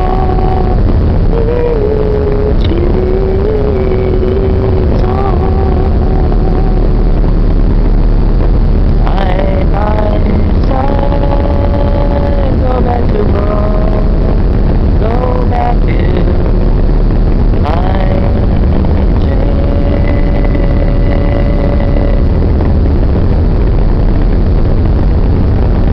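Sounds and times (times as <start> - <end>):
churning wake: 0.0 - 25.9
person singing drawn-out notes: 0.0 - 25.9
wind on microphone: 0.0 - 25.9.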